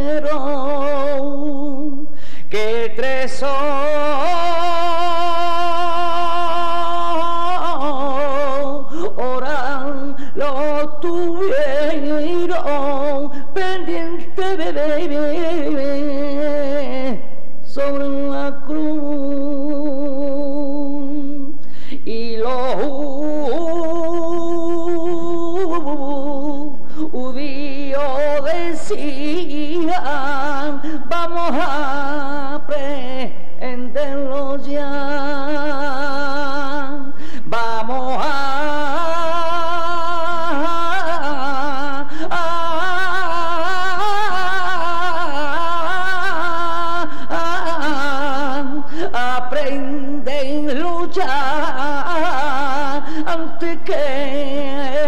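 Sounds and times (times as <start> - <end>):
person singing unaccompanied: 0.0 - 55.0.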